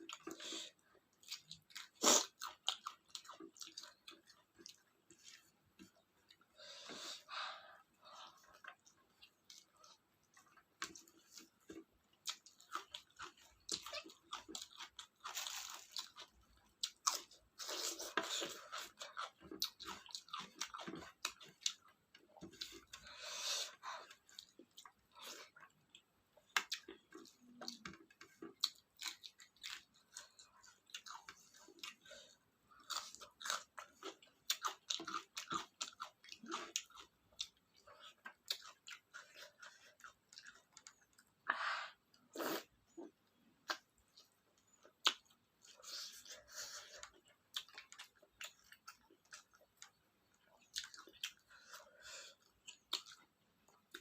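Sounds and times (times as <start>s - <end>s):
wet chewing and lip smacking: 0.0s - 6.5s, 8.2s - 41.4s, 42.5s - 54.0s.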